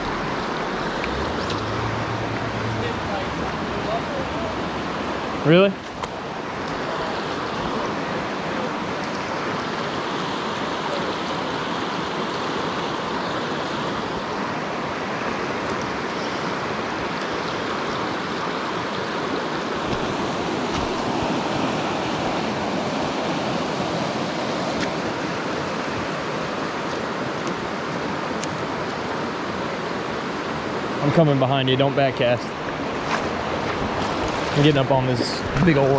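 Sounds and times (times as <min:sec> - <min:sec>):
river rushing over stones: 0:00.0 - 0:35.9.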